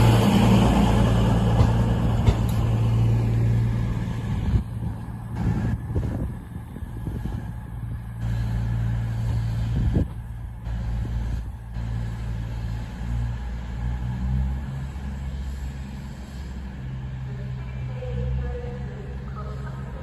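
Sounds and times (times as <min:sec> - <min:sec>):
train engine humming: 0:00.0 - 0:20.0.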